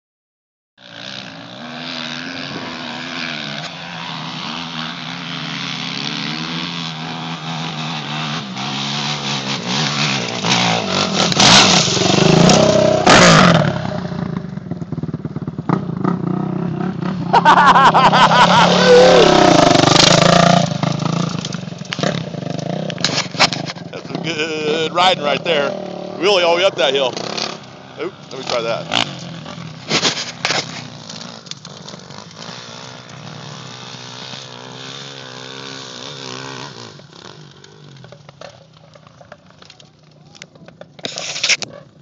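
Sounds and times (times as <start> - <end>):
dirt bike engine revving: 0.8 - 39.4.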